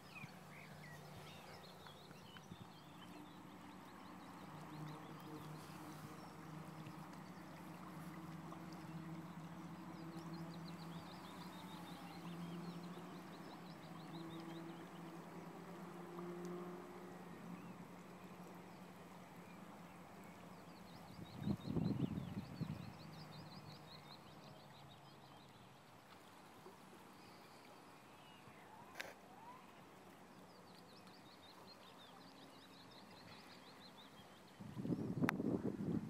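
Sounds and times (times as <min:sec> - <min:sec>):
small birds twittering: 0:00.0 - 0:26.4, 0:27.0 - 0:35.6
flowing river: 0:00.0 - 0:36.0.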